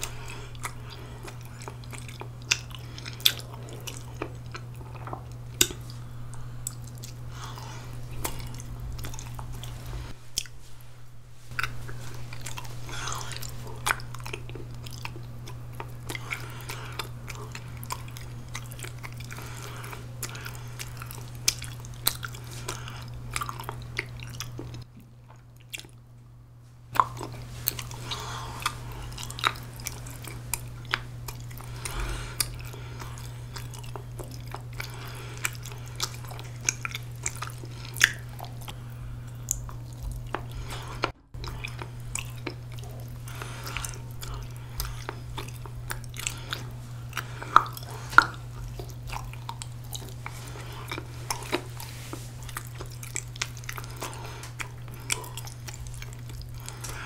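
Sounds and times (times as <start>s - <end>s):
wet chewing smacks and clicks: 0.0s - 10.6s, 11.5s - 26.0s, 26.9s - 57.0s
steady low hum: 0.0s - 57.0s.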